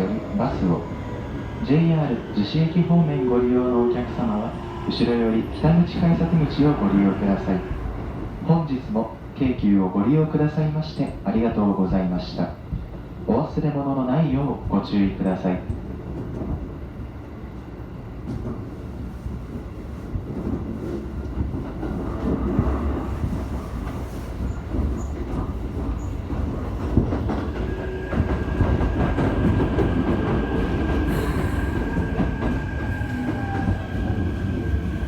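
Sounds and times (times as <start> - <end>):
train wheels rumbling on rails: 0.0 - 9.7, 14.5 - 35.0.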